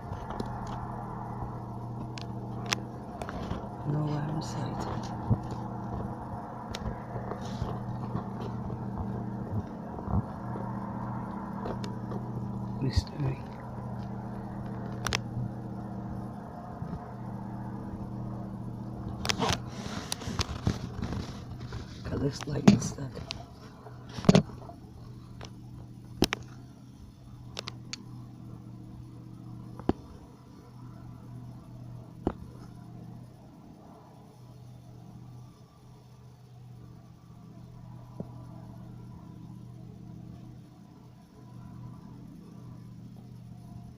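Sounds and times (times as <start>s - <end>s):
low droning hum: 0.0s - 43.9s.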